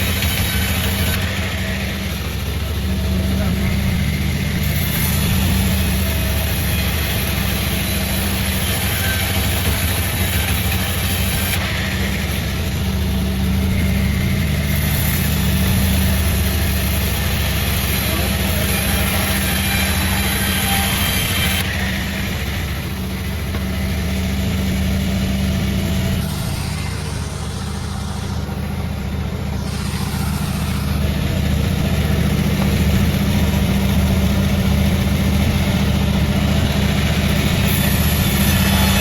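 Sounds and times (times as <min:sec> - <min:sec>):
sawmill machinery humming: 0:00.0 - 0:39.0.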